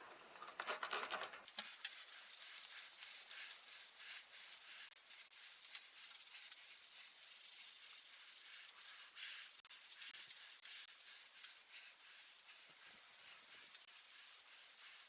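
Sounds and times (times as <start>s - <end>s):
steel wool scrubbing metal: 1.8s - 15.0s.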